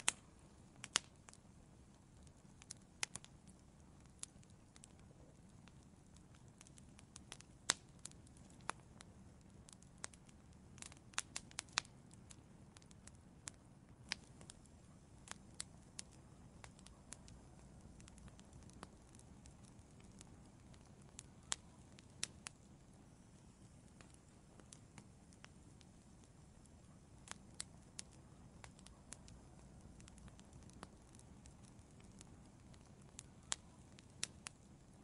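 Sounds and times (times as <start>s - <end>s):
faint low rumble: 0.0s - 35.0s
wood fire crackling and popping: 0.0s - 35.0s.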